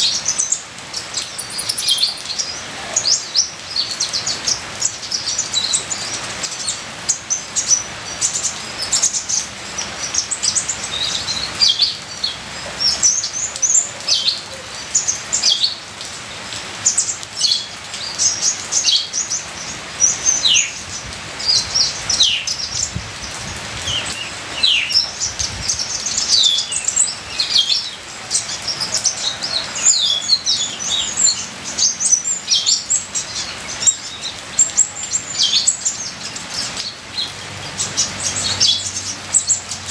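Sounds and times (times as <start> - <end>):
rain or trickling water: 0.0 - 39.9.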